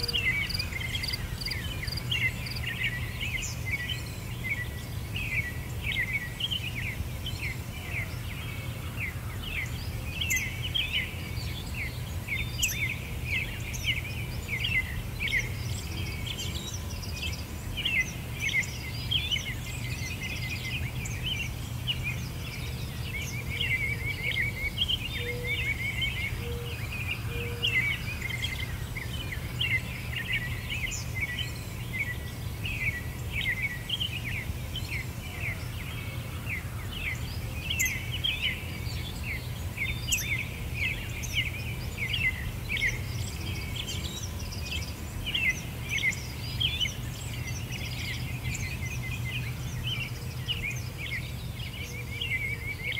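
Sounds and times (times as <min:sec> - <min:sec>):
songbirds chirping and twittering: 0:00.0 - 0:52.9.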